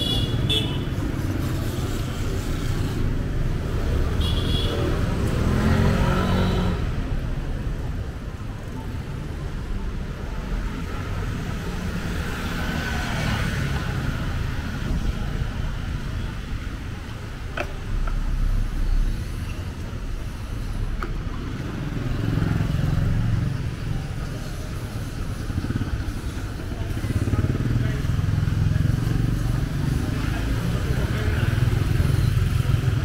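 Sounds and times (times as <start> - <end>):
car and motorbike engines: 0.0 - 33.0.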